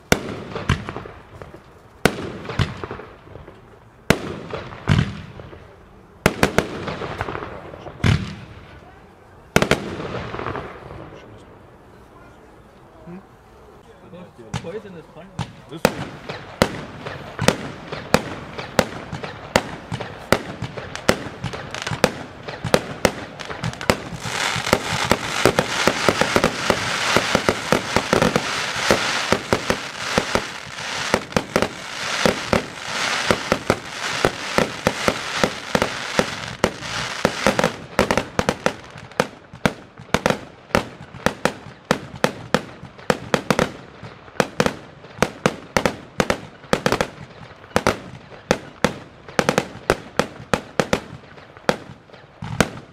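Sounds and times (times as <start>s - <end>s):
firework sharp bangs: 0.0s - 8.7s, 9.5s - 11.1s, 14.5s - 52.9s
dense continuous rush of noise: 0.0s - 52.9s.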